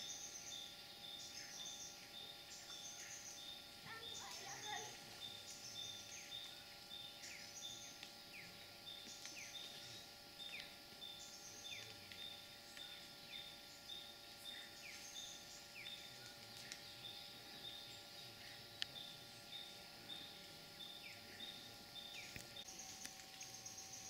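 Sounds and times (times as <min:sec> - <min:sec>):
small animals calling: 0:00.0 - 0:24.0.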